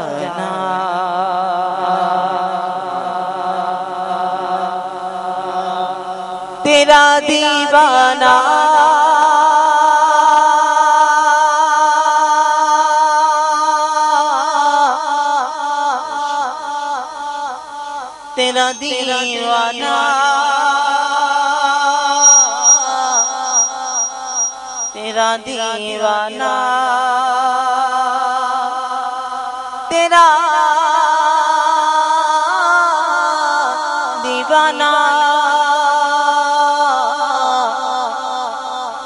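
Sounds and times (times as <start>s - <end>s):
person singing devotional song: 0.0s - 39.0s.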